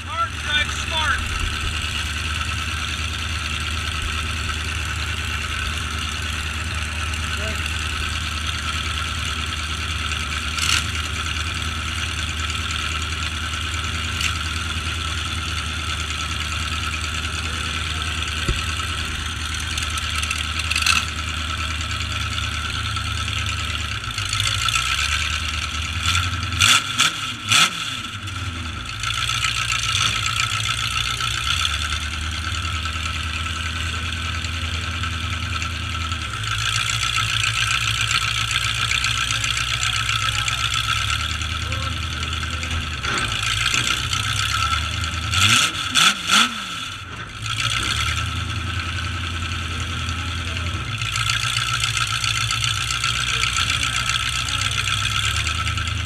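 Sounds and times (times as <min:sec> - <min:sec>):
truck engines droning: 0:00.0 - 0:56.0.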